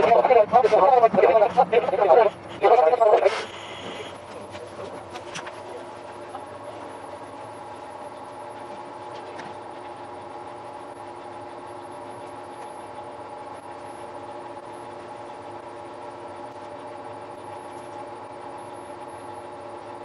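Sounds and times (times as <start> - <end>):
train idling hum: 0.0 - 20.0.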